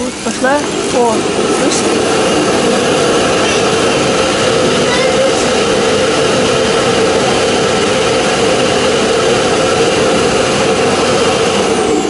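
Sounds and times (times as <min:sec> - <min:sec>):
vacuum suction motor rushing: 0:00.0 - 0:12.0.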